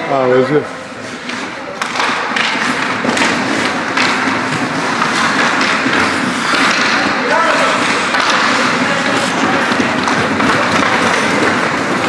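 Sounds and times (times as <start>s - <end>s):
hockey sticks and puck clacking: 0.6s - 12.0s
skates scraping on ice: 0.6s - 12.0s.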